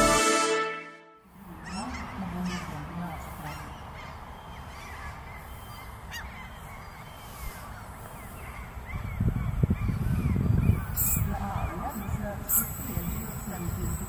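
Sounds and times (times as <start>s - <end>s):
small birds chirping: 1.5s - 14.0s.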